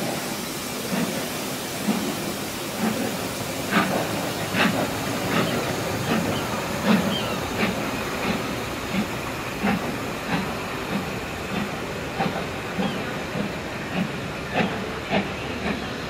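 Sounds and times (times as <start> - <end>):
steady steam hiss: 0.0 - 16.0
train wheels clacking: 0.0 - 16.0.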